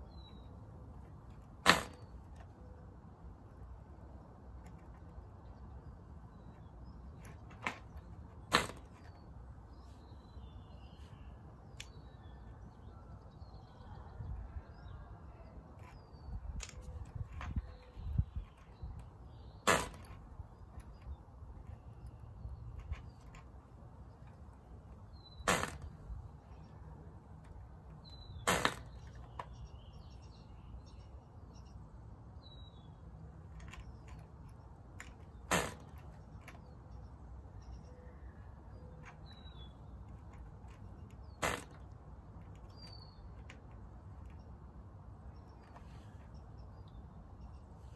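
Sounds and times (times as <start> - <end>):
faint birds chirping: 0.0 - 47.9.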